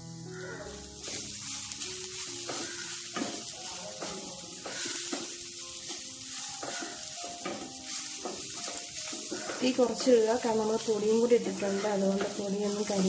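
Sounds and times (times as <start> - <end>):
food sizzling in pan: 0.0 - 13.0
wooden spatula scraping pan: 1.0 - 13.0.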